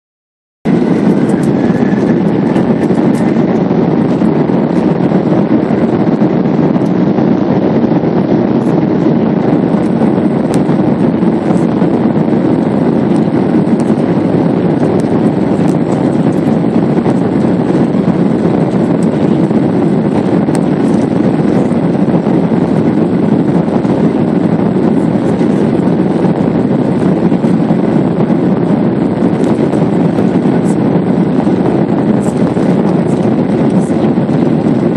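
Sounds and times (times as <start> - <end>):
jet airliner cabin rumble: 0.7 - 34.9.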